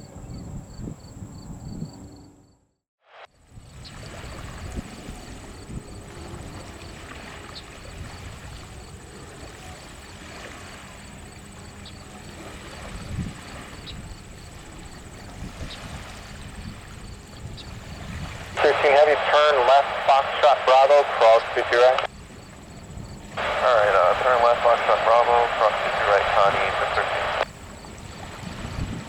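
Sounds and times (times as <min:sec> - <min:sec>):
distant jet engine rumble: 0:04.1 - 0:29.0.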